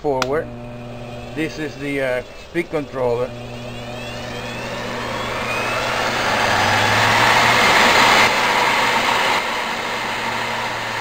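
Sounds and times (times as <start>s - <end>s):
lathe motor whirring: 0.0s - 11.0s.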